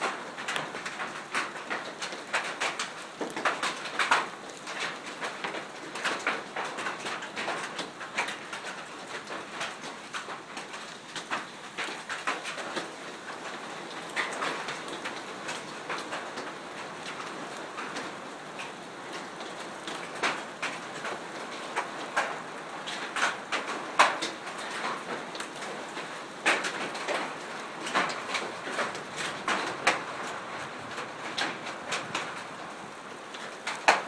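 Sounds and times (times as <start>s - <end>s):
hailstones clattering: 0.0s - 34.0s.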